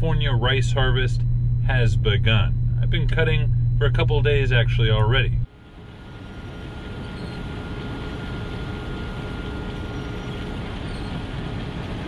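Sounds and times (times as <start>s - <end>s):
combine harvester running: 0.0s - 12.0s
faint steady whine: 0.0s - 12.0s.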